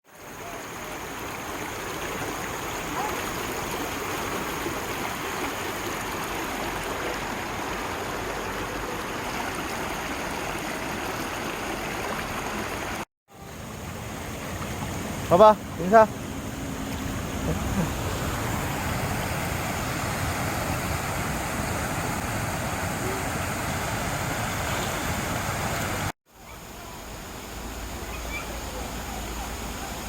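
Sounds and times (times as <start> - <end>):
stream rushing over rocks: 0.1 - 30.0.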